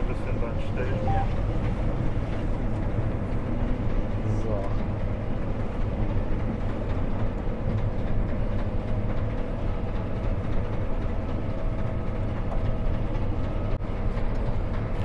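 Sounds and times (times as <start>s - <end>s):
combine harvester low drone: 0.0s - 15.0s.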